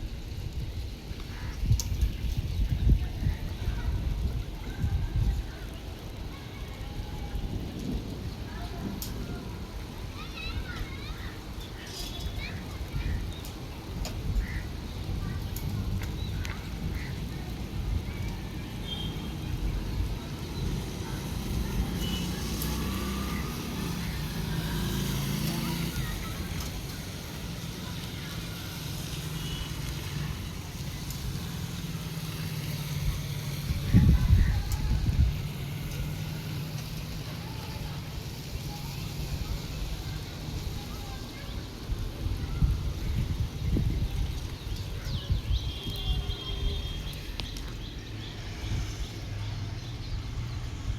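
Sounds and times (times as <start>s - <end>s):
wind buffeting microphone: 0.0s - 22.2s, 30.0s - 49.6s.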